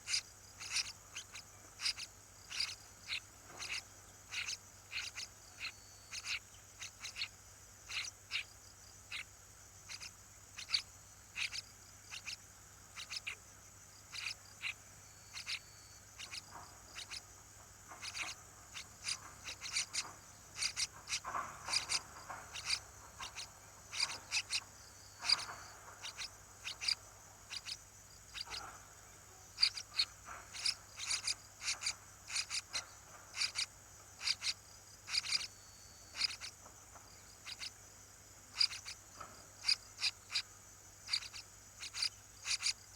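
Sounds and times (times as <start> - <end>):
sharp animal chirps: 0.0 - 13.4, 14.0 - 17.3, 17.9 - 28.7, 29.5 - 36.6, 37.3 - 37.8, 38.5 - 42.9.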